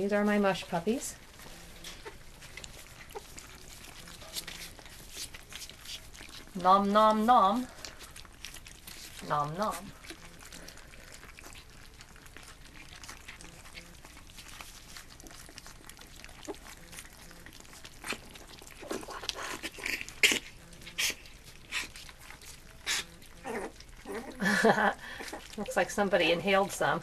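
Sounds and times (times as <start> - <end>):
puppies lapping and smacking: 0.0 - 27.0.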